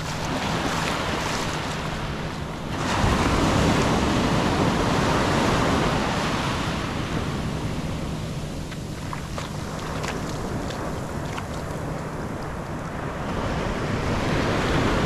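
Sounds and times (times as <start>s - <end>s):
ocean surf washing up sand: 0.0s - 15.0s.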